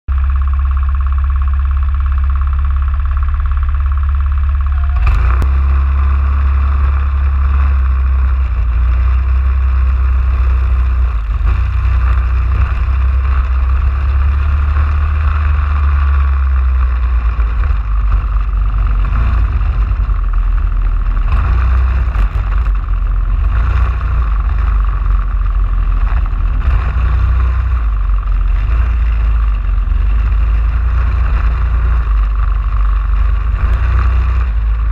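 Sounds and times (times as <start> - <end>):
racing kart engine: 0.1 - 34.9
wind rumble on microphone: 4.6 - 34.9.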